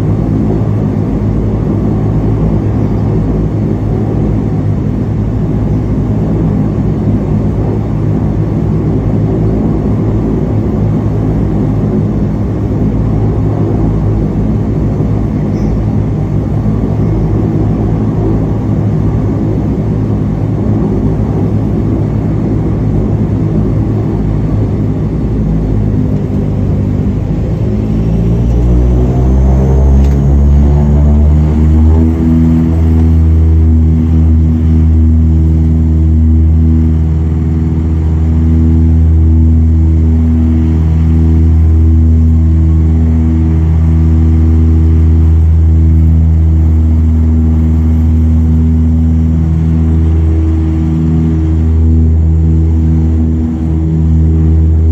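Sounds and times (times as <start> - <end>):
turboprop engine and propeller: 0.0 - 54.9.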